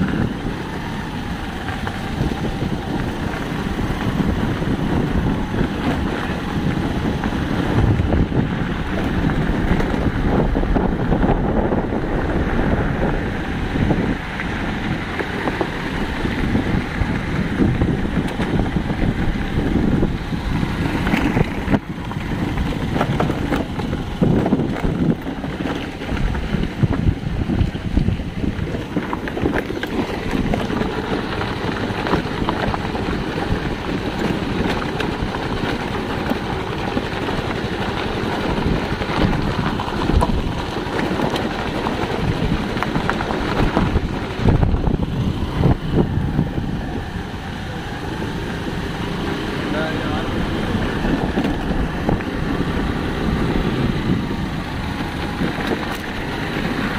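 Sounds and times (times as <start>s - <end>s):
vehicle engine running: 0.0s - 56.9s
wind buffeting microphone: 0.0s - 56.9s.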